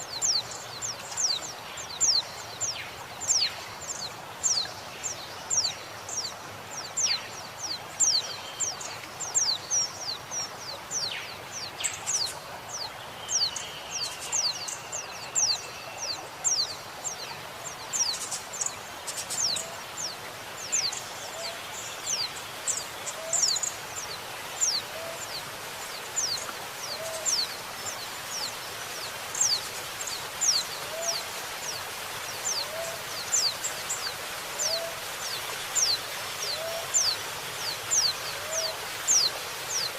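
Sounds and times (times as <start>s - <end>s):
running water hiss: 0.0s - 39.9s.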